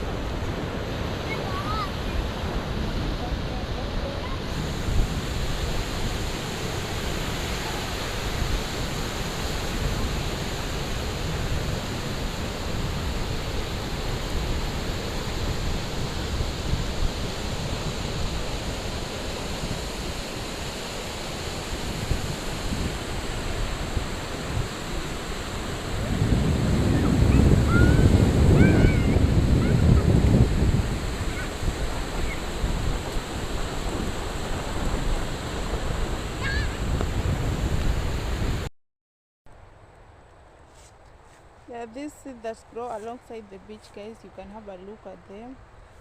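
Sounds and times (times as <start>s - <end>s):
ocean surf on a beach: 0.0s - 38.7s, 41.7s - 46.0s
wind buffeting microphone: 0.0s - 38.7s.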